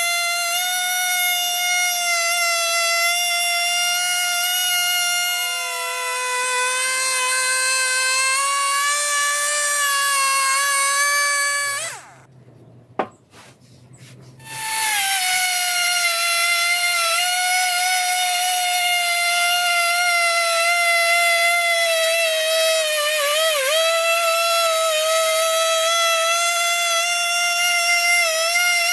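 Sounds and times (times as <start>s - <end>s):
chainsaw cutting log: 0.0s - 12.3s, 14.4s - 28.9s.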